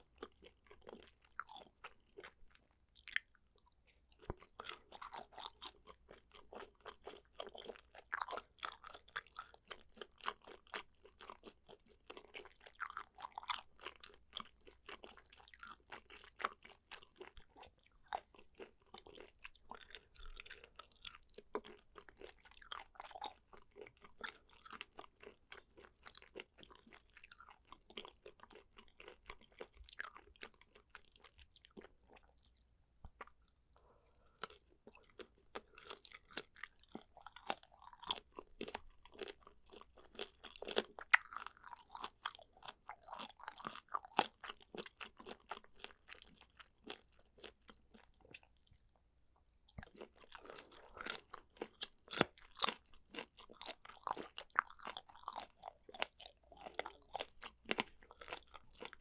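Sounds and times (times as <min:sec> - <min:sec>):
person chewing and crunching food: 0:00.0 - 0:59.0.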